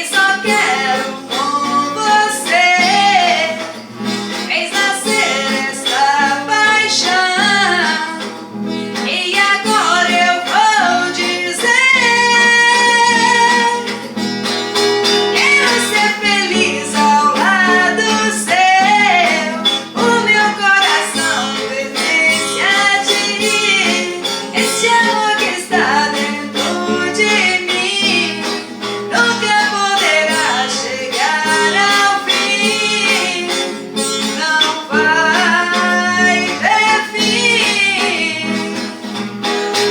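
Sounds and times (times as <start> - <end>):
woman singing: 0.0 - 14.3, 15.0 - 39.9
guitar: 0.0 - 39.9.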